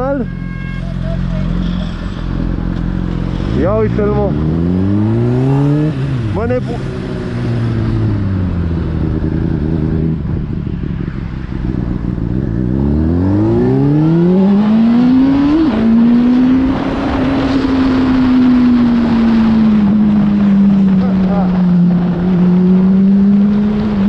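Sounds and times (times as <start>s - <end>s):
motorcycle engine revving: 1.2s - 24.0s.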